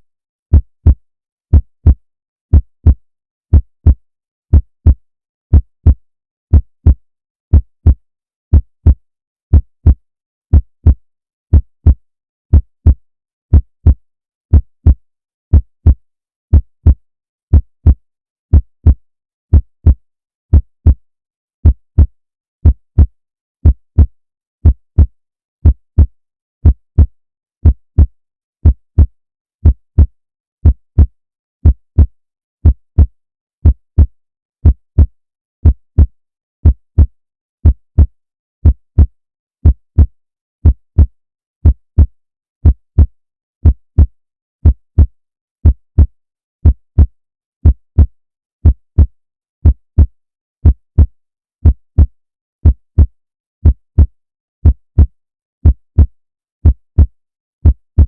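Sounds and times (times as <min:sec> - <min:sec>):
heartbeat lub-dub thumps: 0:00.5 - 0:21.0, 0:21.6 - 0:58.0.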